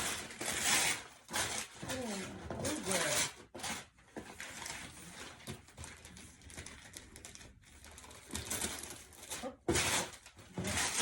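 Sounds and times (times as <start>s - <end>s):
wrapping paper rustling and tearing: 0.0s - 11.0s.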